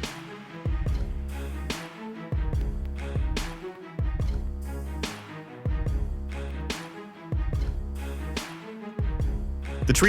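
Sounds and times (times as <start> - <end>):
dramatic music with strings and beat: 0.0 - 10.0.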